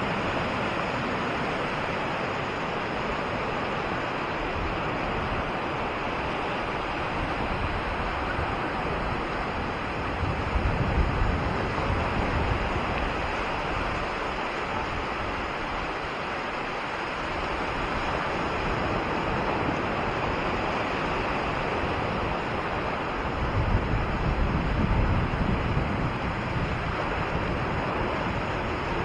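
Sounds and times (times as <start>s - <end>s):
low surf rumble: 0.0s - 29.0s
waves washing up beach: 0.0s - 29.0s.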